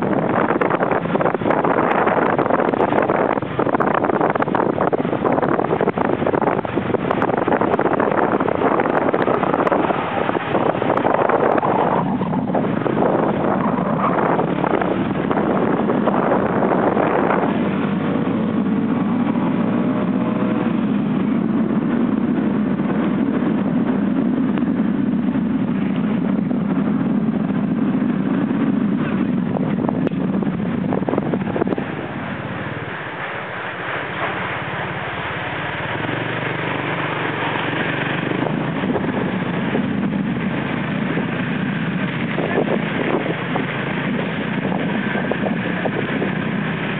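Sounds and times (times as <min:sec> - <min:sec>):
wind on microphone: 0:00.0 - 0:46.9.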